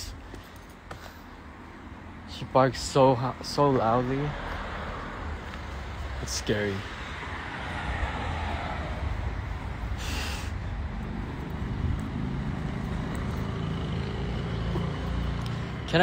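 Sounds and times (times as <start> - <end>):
street noise rumble: 0.0 - 16.0.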